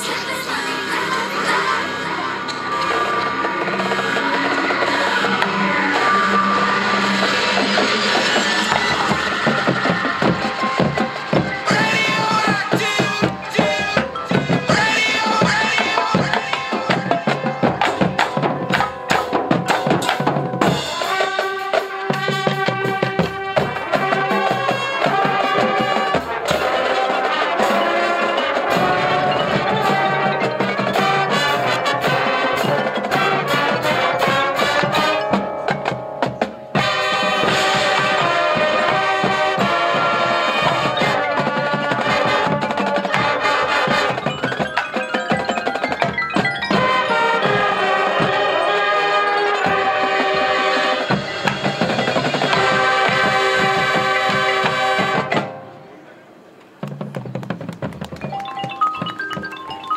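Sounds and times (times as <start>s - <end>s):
brass chords: 0.0s - 56.4s
drumline strokes: 0.0s - 59.9s
marching band playing: 0.0s - 59.9s.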